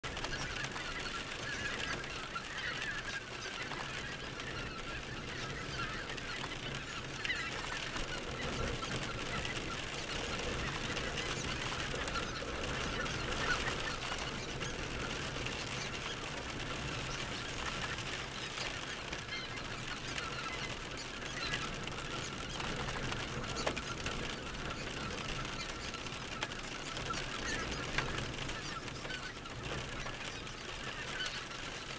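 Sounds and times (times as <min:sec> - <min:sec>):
flock of geese calling: 0:00.0 - 0:31.9.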